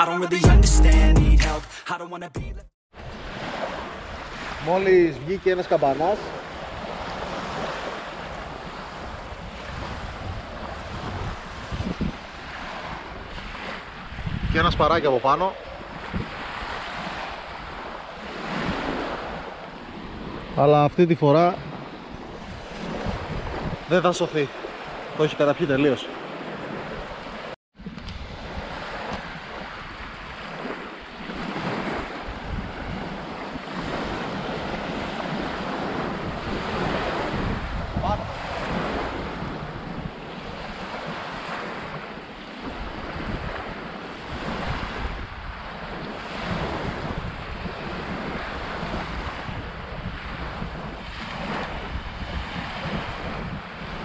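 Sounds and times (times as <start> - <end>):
small waves breaking on shore: 2.9 - 54.0
wind buffeting microphone: 6.2 - 20.6, 21.5 - 25.1, 26.2 - 54.0.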